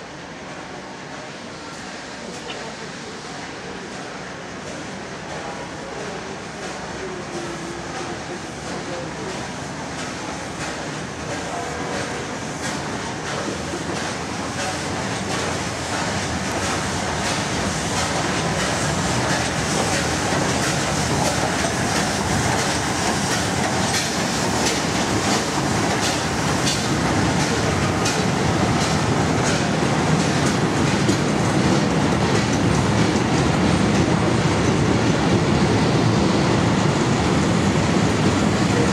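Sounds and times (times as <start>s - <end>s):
steam train rumbling past: 0.0s - 38.9s.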